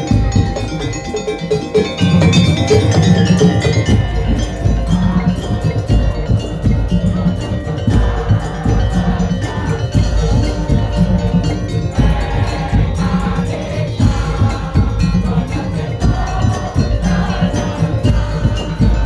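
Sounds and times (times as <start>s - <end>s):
bamboo and wooden drum strikes: 0.0s - 19.0s
metal gongs and bells: 0.0s - 19.0s
low drum pattern: 1.8s - 19.0s.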